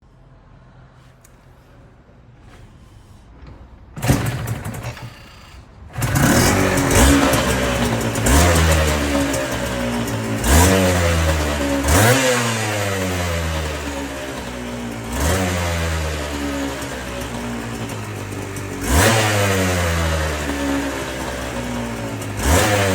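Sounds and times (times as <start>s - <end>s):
motorcycle engine starting and revving: 1.0s - 22.9s.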